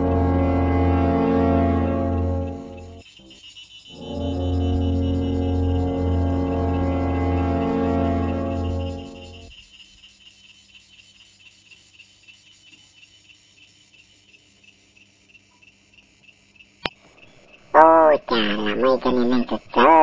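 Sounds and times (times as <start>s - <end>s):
insect chirping trill: 0.0s - 20.0s.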